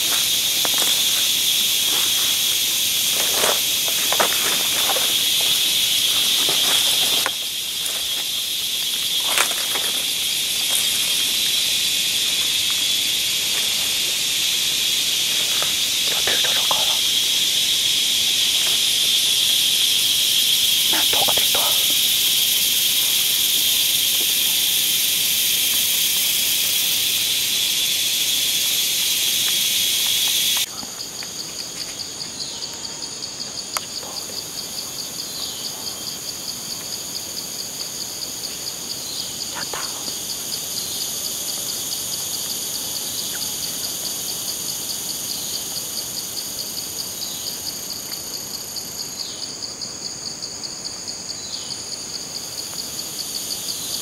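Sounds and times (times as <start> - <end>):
insects buzzing: 0.0 - 54.0
pulsing insect trill: 0.0 - 54.0.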